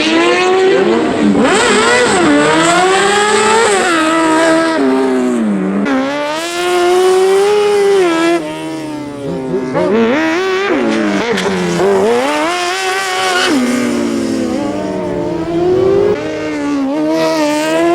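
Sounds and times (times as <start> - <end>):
race car engine revving: 0.0 - 16.2.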